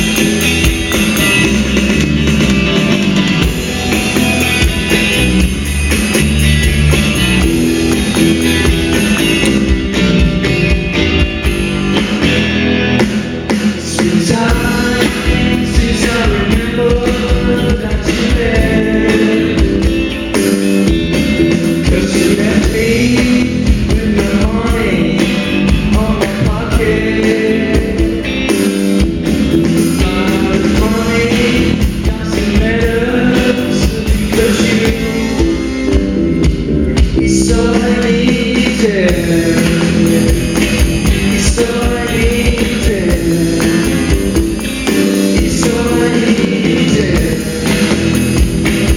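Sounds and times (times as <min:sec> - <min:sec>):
pop-rock song with vocals: 0:00.0 - 0:48.9.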